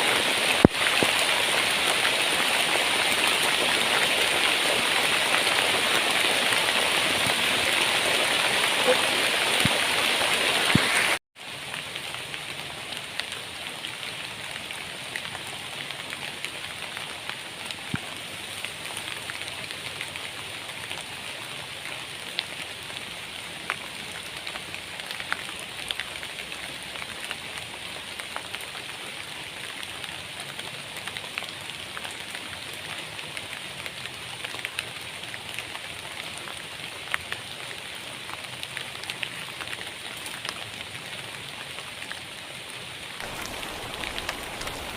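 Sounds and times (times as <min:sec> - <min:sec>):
heavy rain falling: 0:00.0 - 0:44.9
raindrops ticking on surface: 0:00.1 - 0:44.9.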